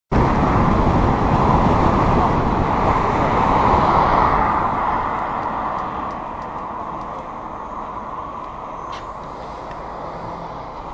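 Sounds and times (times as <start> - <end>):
wind and road noise: 0.1 - 10.9
car passing: 0.2 - 10.9.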